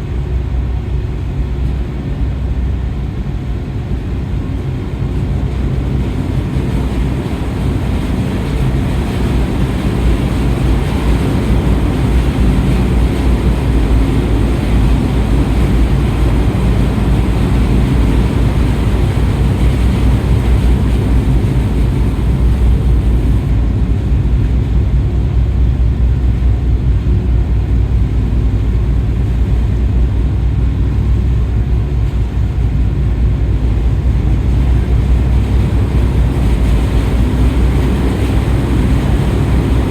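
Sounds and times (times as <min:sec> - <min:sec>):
ship engines low rumble: 0:00.0 - 0:39.9.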